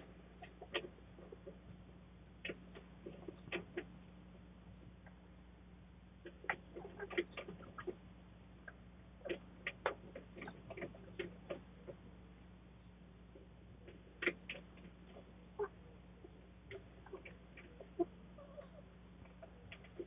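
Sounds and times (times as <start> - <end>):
chickens pecking and scratching: 0.0 - 5.4, 6.1 - 12.4, 13.2 - 20.0
low electrical hum: 0.0 - 20.0.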